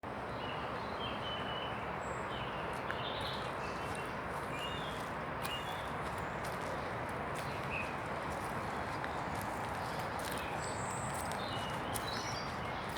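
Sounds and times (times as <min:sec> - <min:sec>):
wind and rain: 0:00.1 - 0:12.9.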